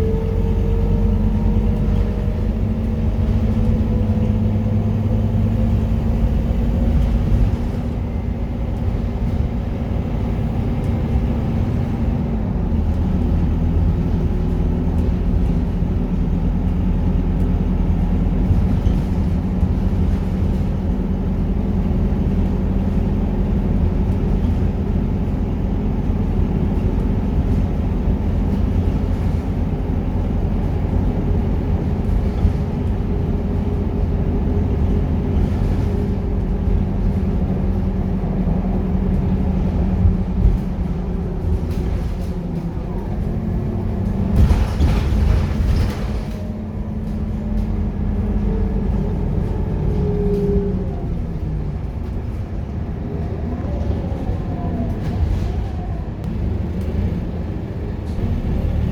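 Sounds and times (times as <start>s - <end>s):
bus diesel engine droning: 0.0s - 58.9s.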